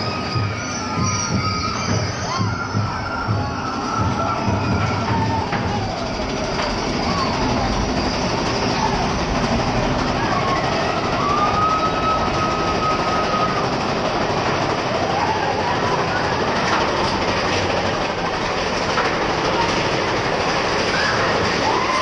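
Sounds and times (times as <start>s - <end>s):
roller coaster rumbling: 0.0s - 22.0s
wheels squealing: 0.0s - 22.0s.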